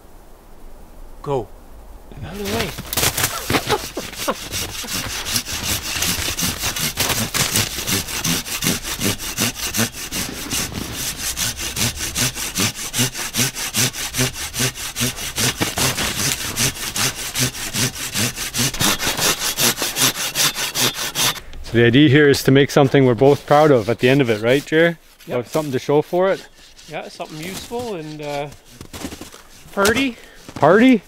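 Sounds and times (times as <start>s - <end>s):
hand saw cutting wood: 2.3s - 21.4s, 22.4s - 31.0s.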